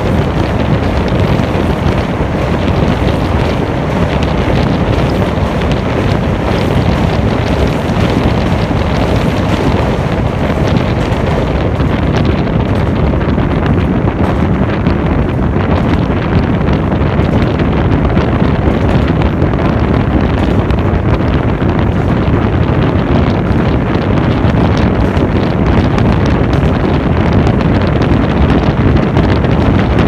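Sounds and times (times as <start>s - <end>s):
train rumble and rattle: 0.0s - 30.0s
wind buffeting microphone: 0.0s - 30.0s.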